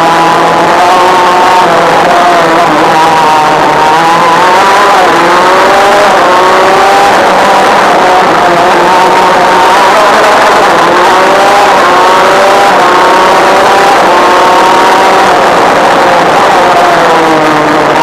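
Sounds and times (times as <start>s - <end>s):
two-stroke kart engine racing: 0.0s - 18.0s.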